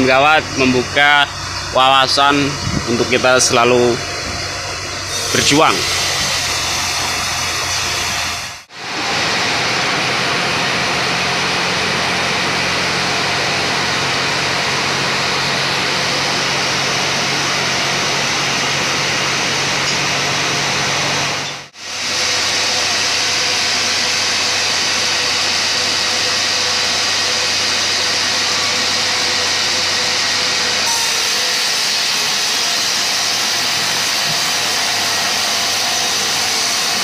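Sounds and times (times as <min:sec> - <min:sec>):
sawmill machinery running: 0:00.0 - 0:37.0.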